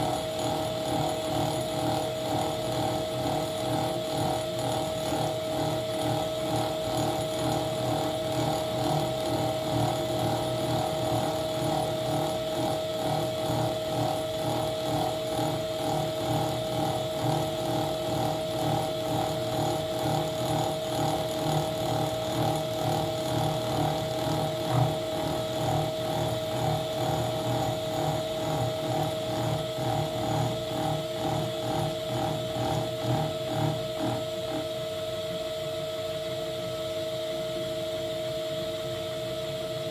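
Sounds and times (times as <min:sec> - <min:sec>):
milling machine running: 0:00.0 - 0:35.4.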